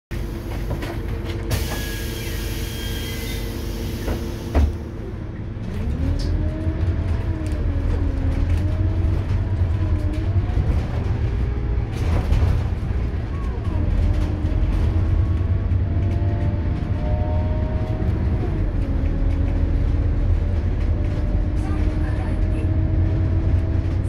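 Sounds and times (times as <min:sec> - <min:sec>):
diesel bus engine: 0:00.1 - 0:24.0.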